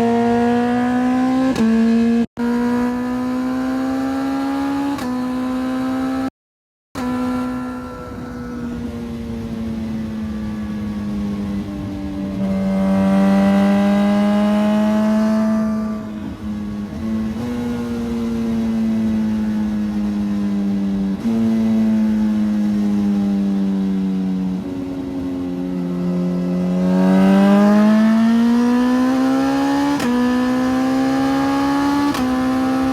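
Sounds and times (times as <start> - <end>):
motorcycle engine revving: 0.0 - 6.3, 7.0 - 32.9.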